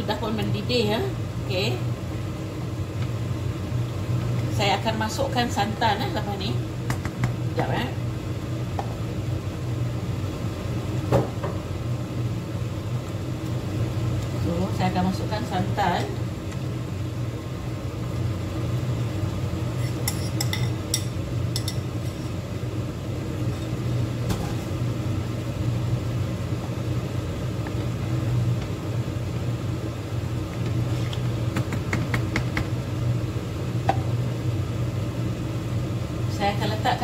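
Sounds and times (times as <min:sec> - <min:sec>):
pot boiling on gas hob: 0:00.0 - 0:37.0.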